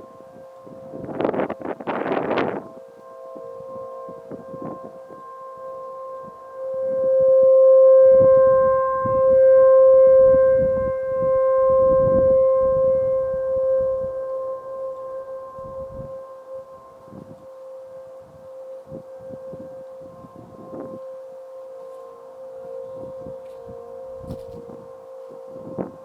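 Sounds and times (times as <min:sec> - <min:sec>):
tornado warning siren: 0:00.0 - 0:26.0.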